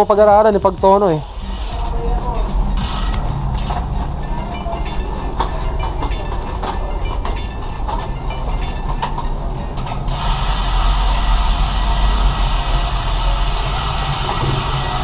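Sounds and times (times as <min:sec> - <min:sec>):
bicycle chain ticking over cogs: 0:00.0 - 0:15.0
steady rush: 0:00.0 - 0:15.0.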